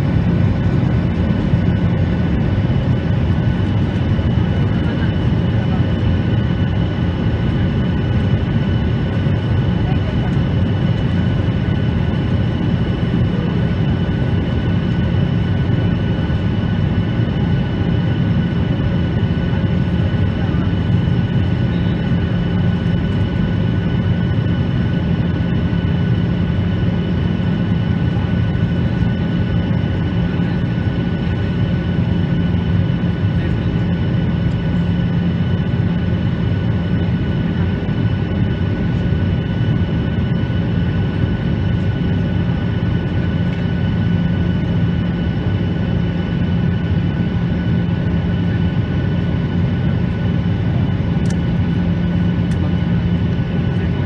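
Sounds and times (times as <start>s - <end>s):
jet airliner cabin roar: 0.0s - 54.0s.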